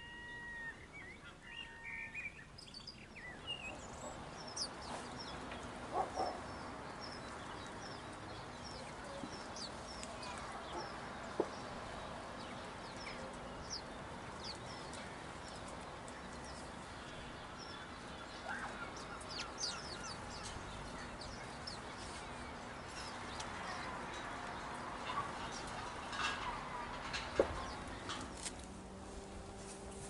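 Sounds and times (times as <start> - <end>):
outdoor background hiss: 0.0 - 30.0
songbirds chirping: 0.0 - 30.0.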